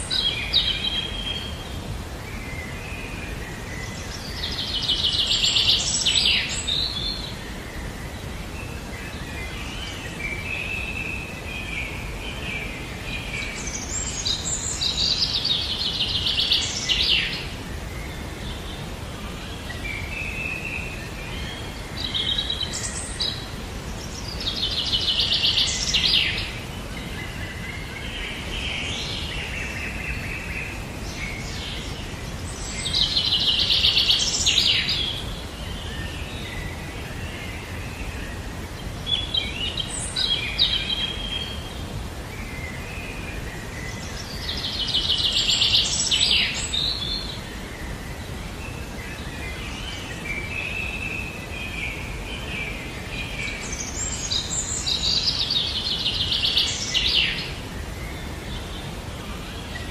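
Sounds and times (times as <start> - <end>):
background hiss: 0.0 - 59.9.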